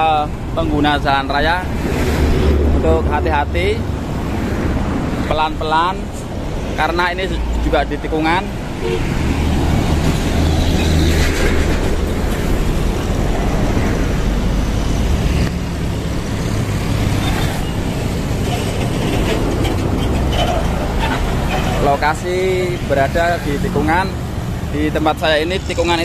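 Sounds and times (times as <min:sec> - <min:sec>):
motorcycles passing: 0:00.0 - 0:26.0
trucks passing: 0:00.0 - 0:26.0.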